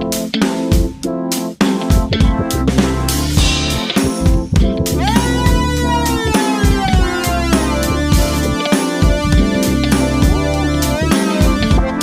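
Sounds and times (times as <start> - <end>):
drum beat: 1.6 - 12.0
electric guitar with bending notes: 1.6 - 12.0.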